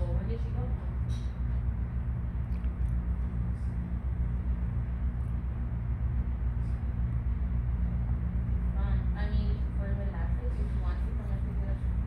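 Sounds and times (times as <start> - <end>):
steady low rumbling hum: 0.0 - 12.0.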